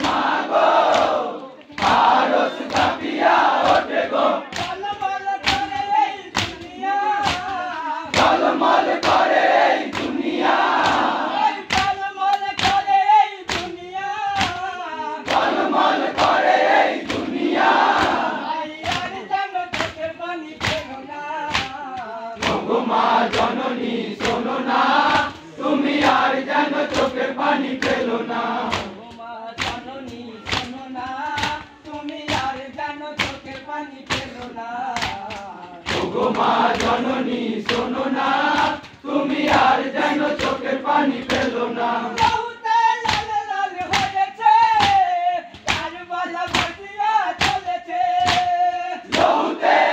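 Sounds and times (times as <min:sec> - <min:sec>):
hands beating chests: 0:00.0 - 0:49.9
men chanting in unison: 0:00.0 - 0:49.9.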